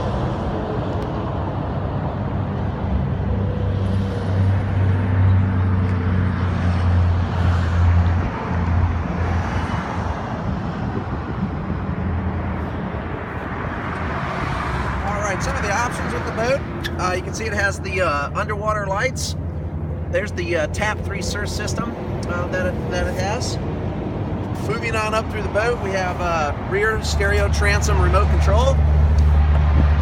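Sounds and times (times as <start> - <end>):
low engine hum: 0.0 - 30.0
traffic noise: 0.0 - 30.0.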